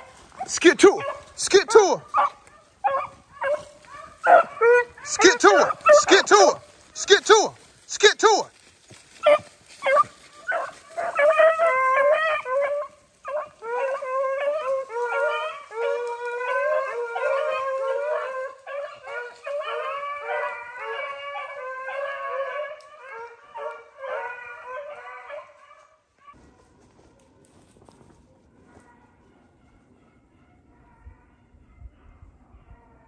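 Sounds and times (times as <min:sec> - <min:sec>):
hounds baying: 0:00.0 - 0:33.0.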